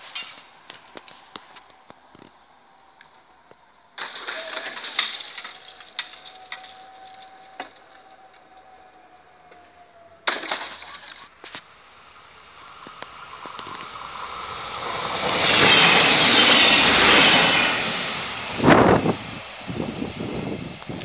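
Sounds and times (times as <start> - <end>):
level crossing barrier whine: 0.0 - 20.6.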